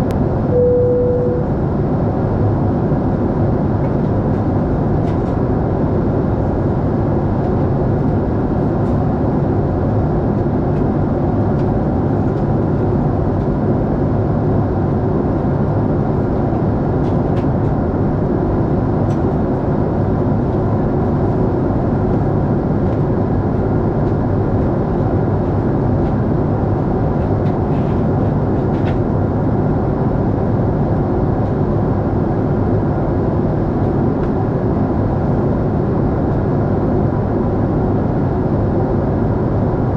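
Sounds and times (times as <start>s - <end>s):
airliner engine and airflow noise: 0.0s - 39.9s.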